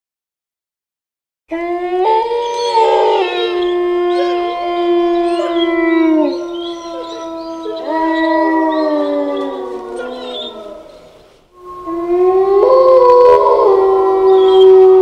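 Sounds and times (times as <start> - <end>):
wolves howling: 1.5 - 15.0.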